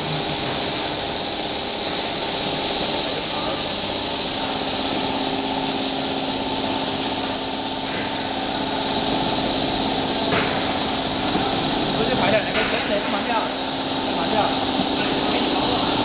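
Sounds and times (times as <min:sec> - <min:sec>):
coating machine hiss and hum: 0:00.0 - 0:16.0.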